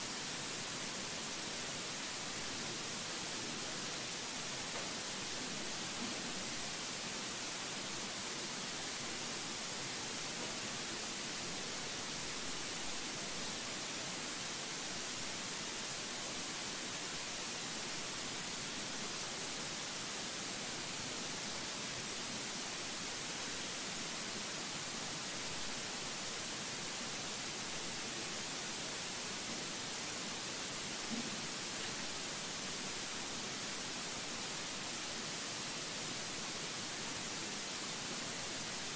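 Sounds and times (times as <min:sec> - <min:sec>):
steady high hiss: 0:00.0 - 0:38.9.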